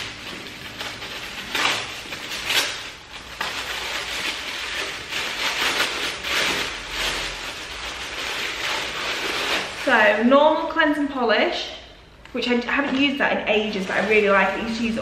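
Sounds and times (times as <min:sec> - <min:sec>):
paper crinkling and rustling: 0:00.0 - 0:10.3, 0:12.7 - 0:15.0.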